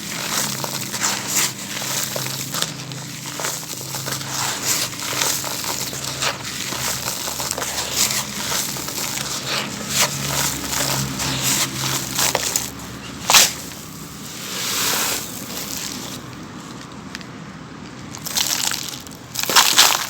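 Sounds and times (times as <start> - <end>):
sand-cement chunks crunching: 0.0 - 16.9, 18.1 - 20.0.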